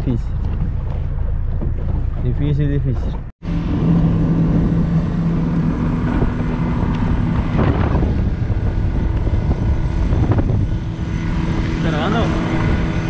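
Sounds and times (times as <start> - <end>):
outboard motor running: 0.0 - 13.0
wind on microphone: 0.0 - 13.0.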